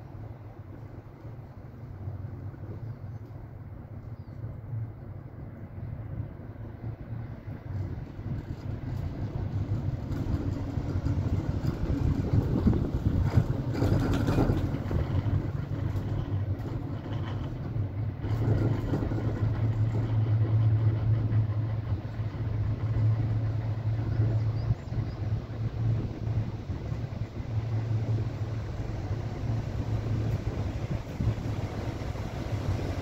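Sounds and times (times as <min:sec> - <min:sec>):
vehicle rumbling in motion: 0:00.0 - 0:33.0.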